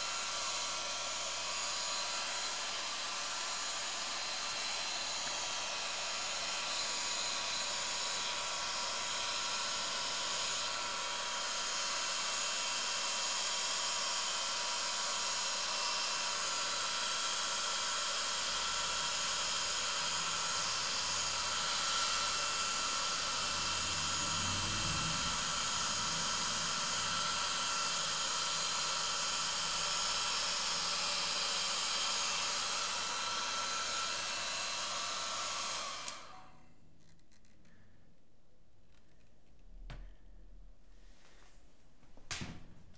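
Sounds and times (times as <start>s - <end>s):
hair dryer running: 0.0s - 36.6s.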